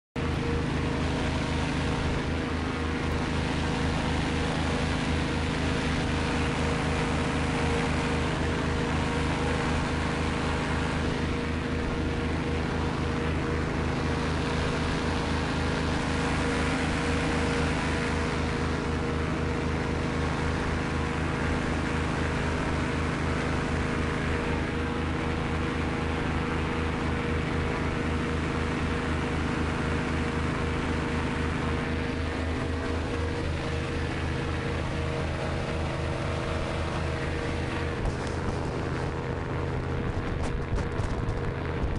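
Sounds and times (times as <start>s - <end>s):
constant rushing noise: 0.2s - 41.9s
hovercraft engine and fan drone: 0.2s - 41.9s.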